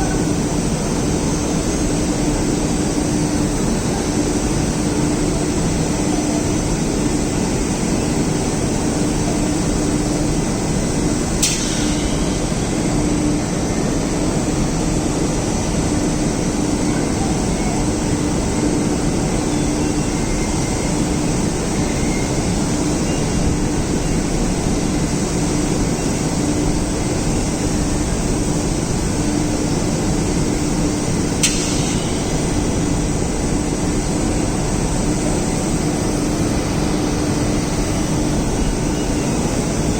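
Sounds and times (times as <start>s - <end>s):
machine drone and rumble: 0.0s - 39.9s.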